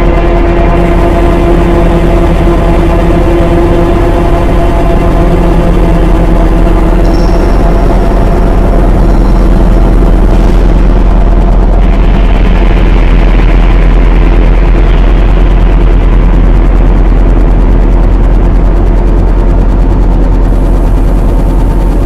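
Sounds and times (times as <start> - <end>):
dark electronic drone: 0.0 - 22.0.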